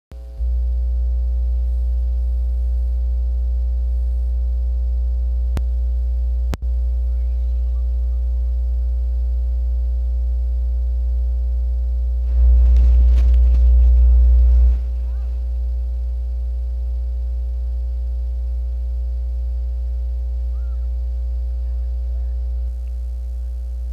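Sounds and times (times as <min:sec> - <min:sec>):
loud electronic hum: 0:00.1 - 0:23.9
faint steady tones: 0:00.2 - 0:23.9
noisy sound: 0:00.2 - 0:23.9.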